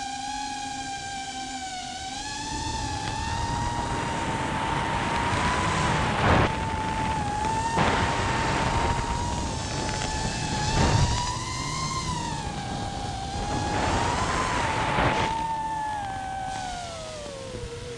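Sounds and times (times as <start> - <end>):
drone motors whining: 0.0 - 17.9
rushing noise: 2.2 - 17.9.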